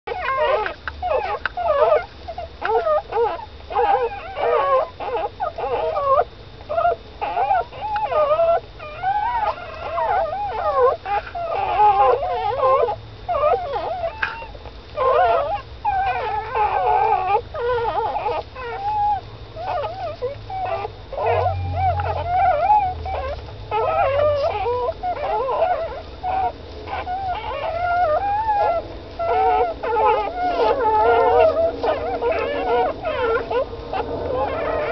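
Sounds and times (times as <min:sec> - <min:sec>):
puppies whimpering and squeaking: 0:00.1 - 0:34.9.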